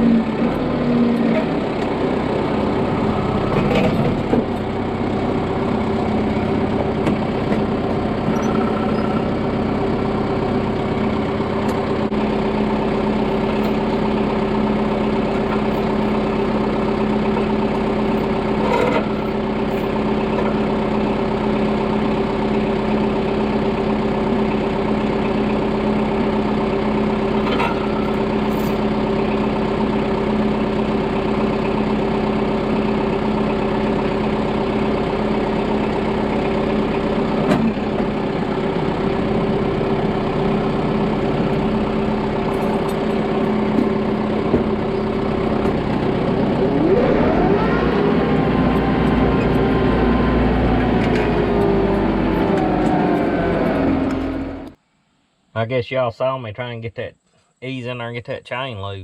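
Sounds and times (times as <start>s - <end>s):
tractor engine idling: 0.0s - 54.8s.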